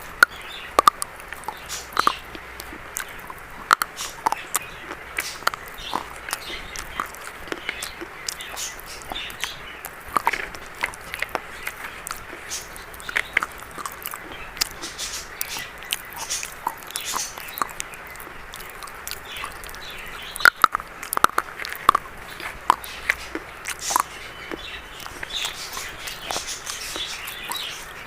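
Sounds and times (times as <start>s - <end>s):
biscuit crunching: 0.0s - 28.0s.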